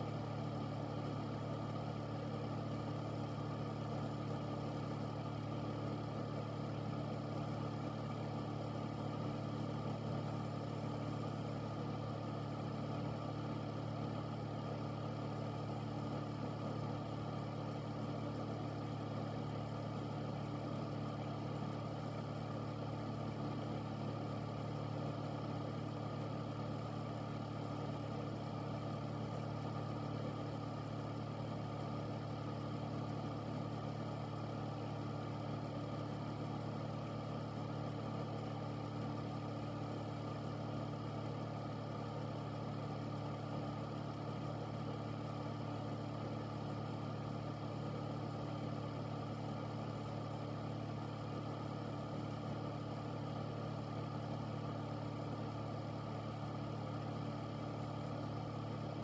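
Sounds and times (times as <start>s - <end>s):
air purifier fan running: 0.0s - 59.0s.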